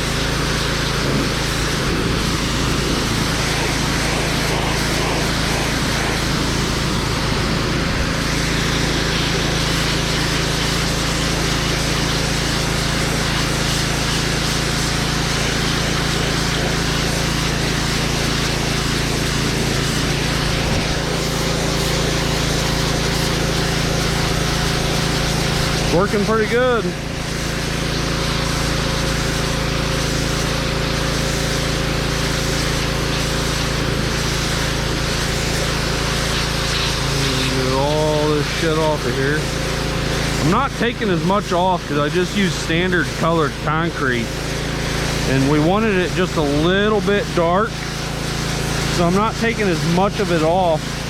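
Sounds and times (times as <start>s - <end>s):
hiss of water jet: 0.0s - 51.0s
pressure washer engine running: 0.0s - 51.0s.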